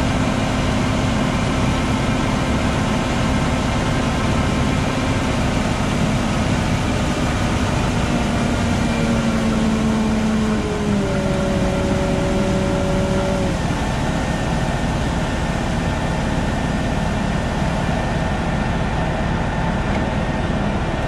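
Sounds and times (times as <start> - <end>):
steady whine: 0.0 - 21.0
tractor engine drone: 0.0 - 21.0.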